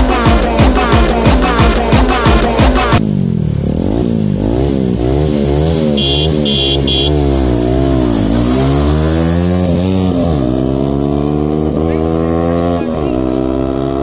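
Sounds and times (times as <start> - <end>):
motorcycle engine revving: 0.2 - 14.0.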